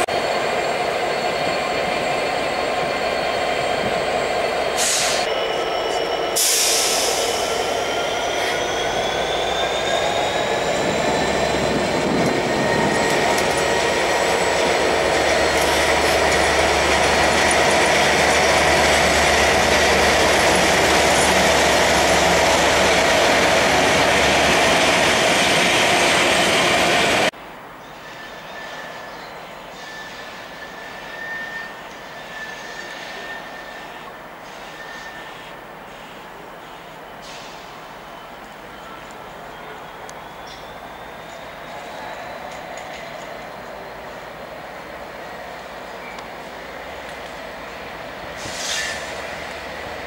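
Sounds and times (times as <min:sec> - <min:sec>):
diesel locomotive engine: 0:00.0 - 0:27.4, 0:28.0 - 0:50.0.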